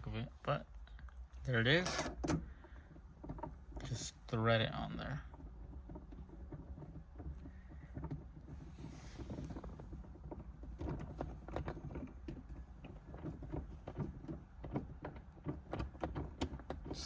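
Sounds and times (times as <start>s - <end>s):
knob clicking and rubbing: 1.3s - 17.0s.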